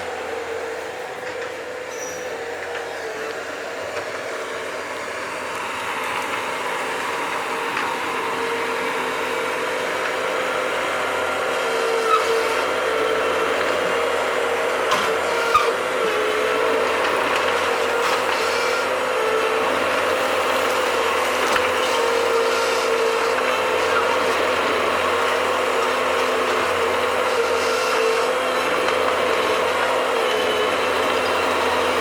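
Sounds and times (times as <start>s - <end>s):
loader engine and hydraulics whine: 0.0s - 32.0s.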